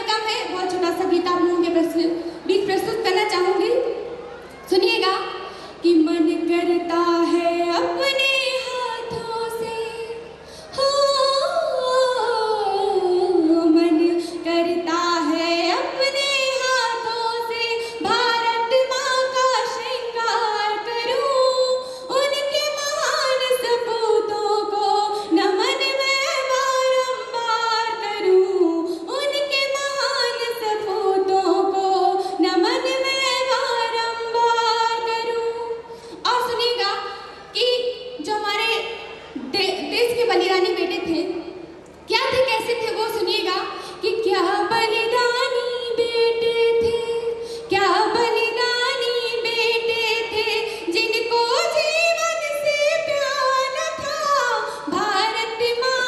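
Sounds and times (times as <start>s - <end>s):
woman singing into microphone: 5.8s - 37.0s, 42.2s - 56.0s.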